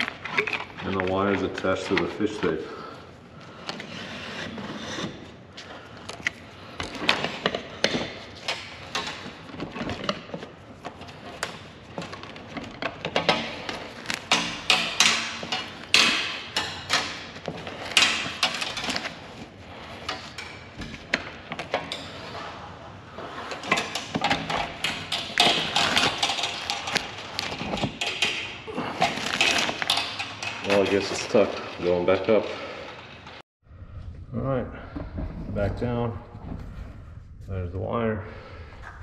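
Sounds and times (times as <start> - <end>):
knocks clatters and scraping: 0.0 - 33.4.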